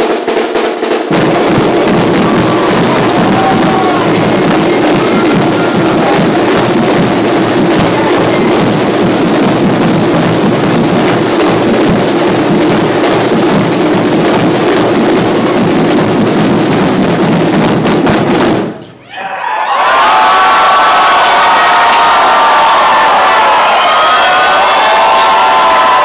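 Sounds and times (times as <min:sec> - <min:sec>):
marching drumline: 0:00.0 - 0:18.8, 0:19.8 - 0:26.0.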